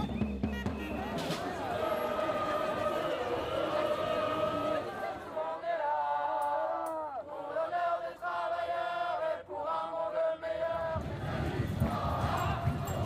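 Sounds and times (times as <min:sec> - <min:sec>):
crowd chanting in unison: 0:00.8 - 0:13.0.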